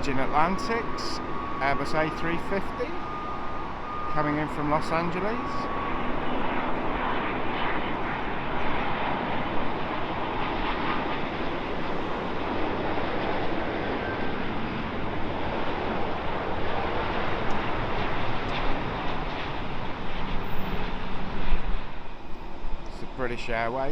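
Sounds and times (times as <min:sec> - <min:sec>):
jet engine rumble and hiss: 0:00.0 - 0:23.9.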